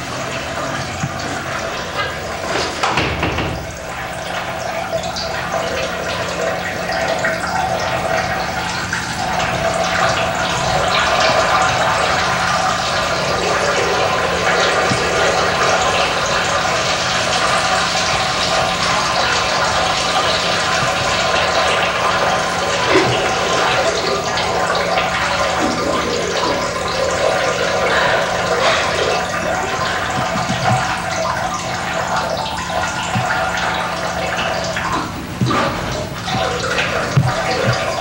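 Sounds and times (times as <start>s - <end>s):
urine splashing into urinals: 0.0s - 38.0s.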